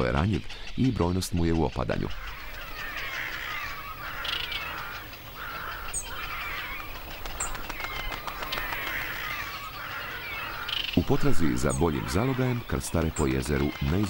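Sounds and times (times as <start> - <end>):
flock of waterbirds calling: 0.0 - 14.0.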